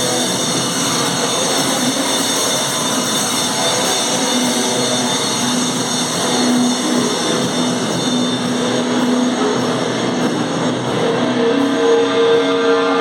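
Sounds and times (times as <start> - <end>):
distorted noise-metal band: 0.0 - 13.0.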